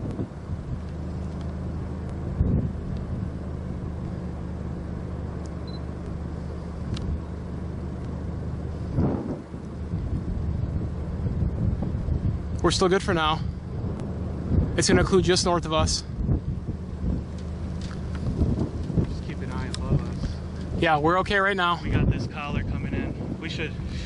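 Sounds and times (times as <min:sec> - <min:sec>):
vehicle engine idling: 0:00.0 - 0:24.0
wind gusting across microphone: 0:00.0 - 0:24.0.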